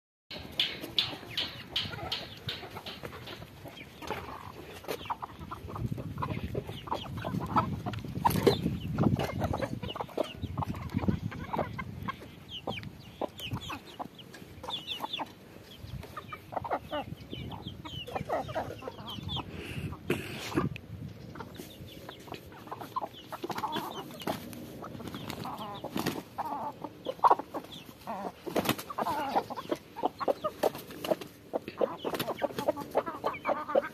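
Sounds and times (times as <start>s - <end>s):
hens and roosters clucking: 0.3s - 33.9s.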